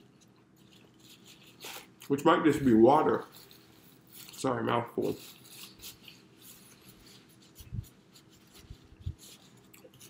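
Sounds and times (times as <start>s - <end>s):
paper napkin crinkling: 0.0s - 10.0s.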